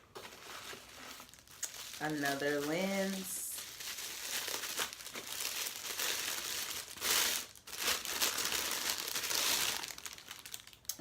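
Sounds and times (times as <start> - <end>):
packaging crinkling: 0.1 - 11.0.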